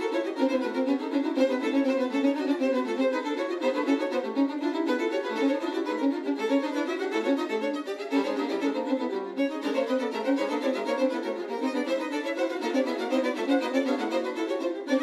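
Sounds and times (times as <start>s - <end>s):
violin playing quick notes: 0.0s - 15.0s.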